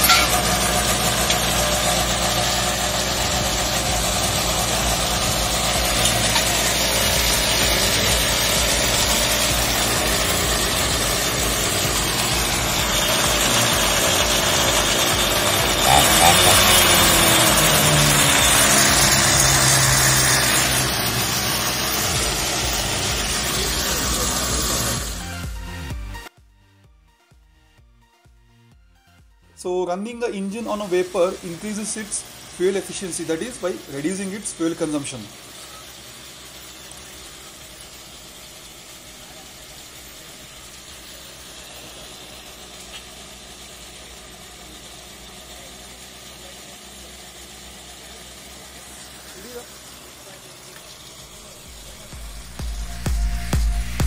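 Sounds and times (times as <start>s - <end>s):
motorcycle engine idling: 0.0s - 26.3s, 29.9s - 54.0s.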